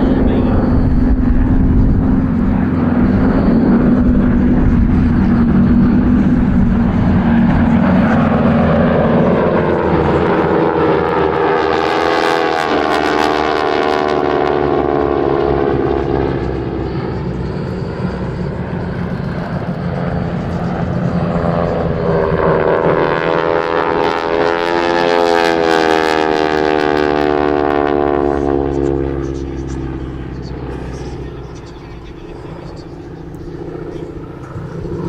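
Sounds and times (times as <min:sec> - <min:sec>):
propeller planes flying past: 0:00.0 - 0:35.0.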